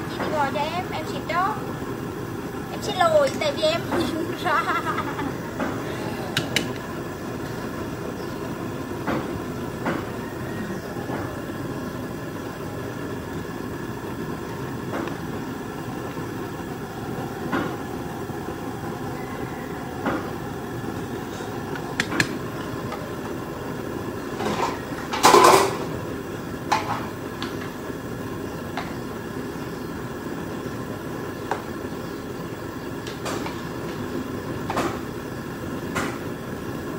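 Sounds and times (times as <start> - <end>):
steady background hum: 0.0 - 36.9.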